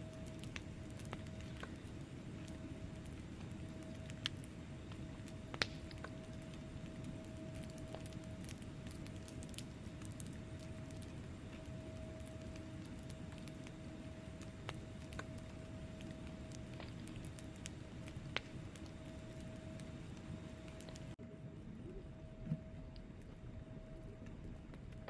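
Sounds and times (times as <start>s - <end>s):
faint steady hum: 0.0s - 25.0s
logs crackling and popping: 0.0s - 25.0s
low rumble of flames: 0.0s - 25.0s.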